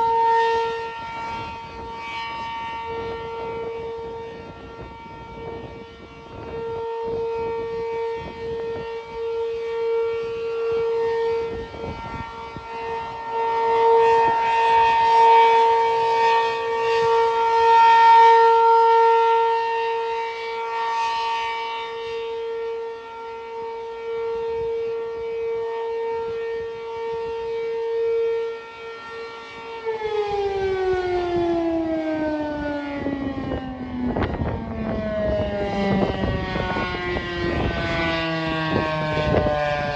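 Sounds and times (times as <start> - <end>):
civil defense siren: 0.0 - 39.9.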